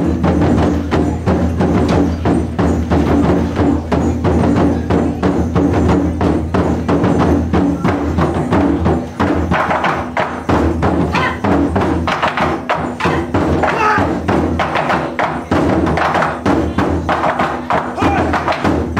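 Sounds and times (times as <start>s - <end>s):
fast percussion music: 0.0s - 18.9s.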